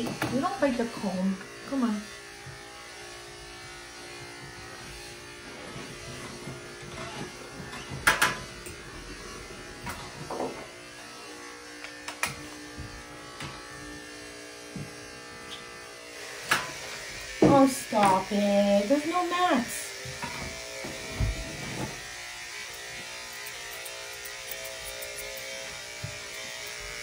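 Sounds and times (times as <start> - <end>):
grooming tool motor buzz: 0.0 - 27.0.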